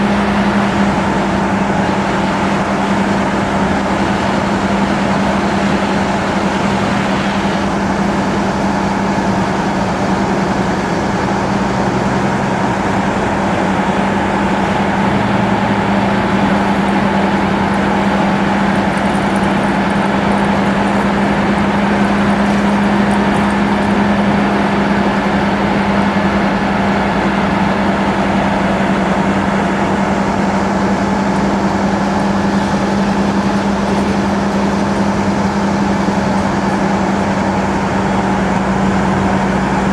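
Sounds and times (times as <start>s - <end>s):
fire truck engine droning: 0.0s - 39.9s.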